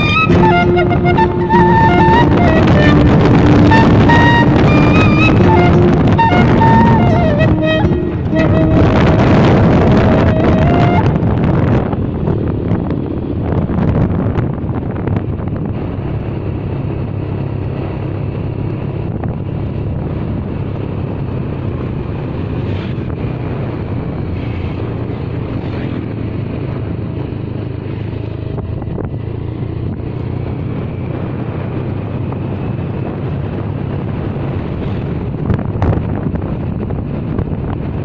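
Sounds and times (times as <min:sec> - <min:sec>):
motorcycle engine cruising: 0:00.0 - 0:38.0
wind rushing over microphone: 0:00.0 - 0:38.0.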